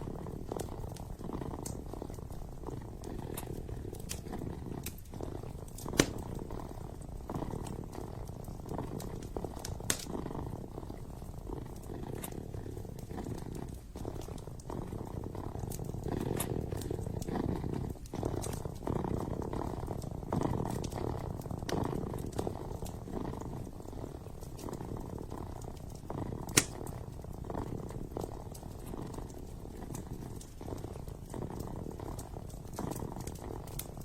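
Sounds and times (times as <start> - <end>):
kitten purring: 0.0 - 34.0
wood fire crackling and popping: 0.0 - 34.0.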